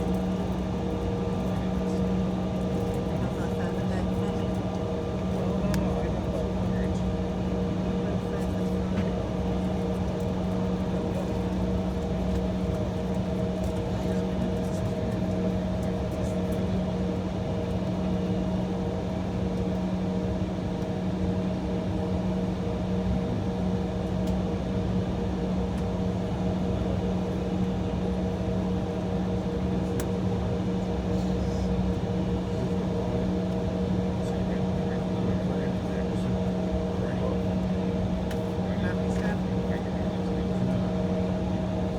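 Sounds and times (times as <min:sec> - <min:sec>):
airliner cabin hum: 0:00.0 - 0:21.4, 0:22.0 - 0:41.9.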